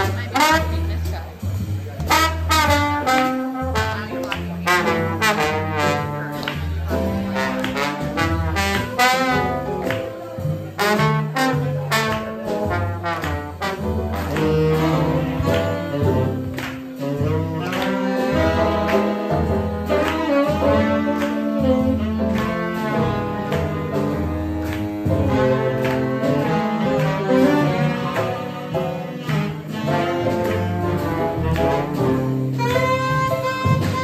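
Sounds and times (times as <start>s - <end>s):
jazz band playing swing: 0.0s - 34.0s.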